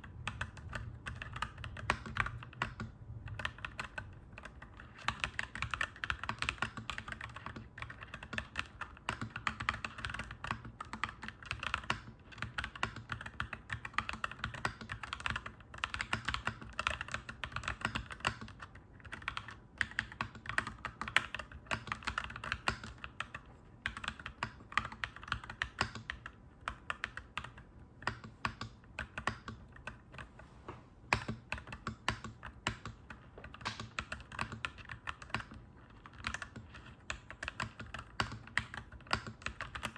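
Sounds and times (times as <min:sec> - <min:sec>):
mechanical keyboard typing: 0:00.0 - 0:30.4, 0:31.1 - 0:39.9.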